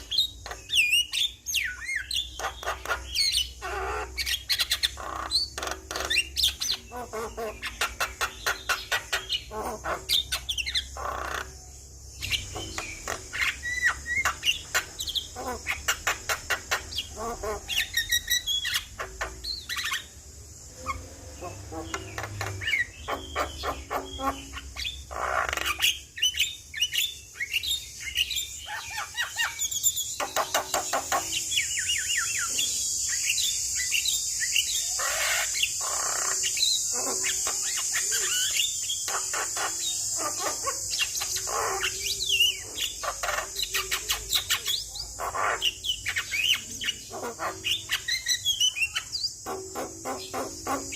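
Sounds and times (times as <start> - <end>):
bird singing chirps and whistles: 0.0 - 11.5, 12.2 - 20.2, 20.8 - 50.9
high-pitched hiss: 6.3 - 50.9.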